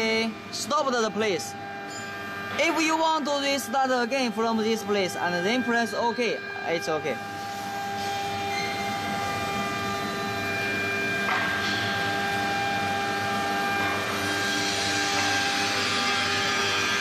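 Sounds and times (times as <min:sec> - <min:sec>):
engraving router whine: 0:00.0 - 0:17.0.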